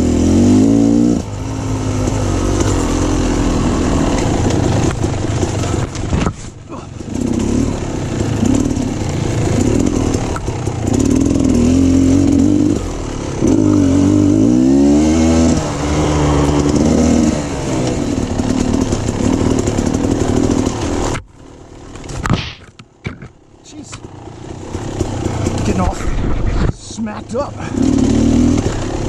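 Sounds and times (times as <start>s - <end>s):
dirt bike engine revving: 0.0s - 21.2s, 24.0s - 29.0s.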